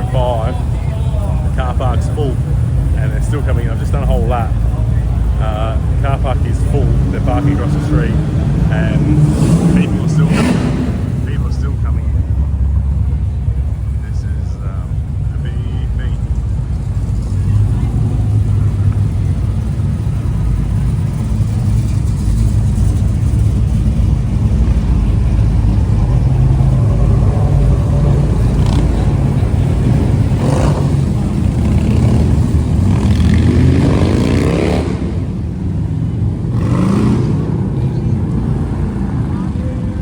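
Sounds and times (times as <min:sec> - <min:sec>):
car accelerating: 0:00.0 - 0:40.0
car engines rumbling: 0:00.0 - 0:40.0.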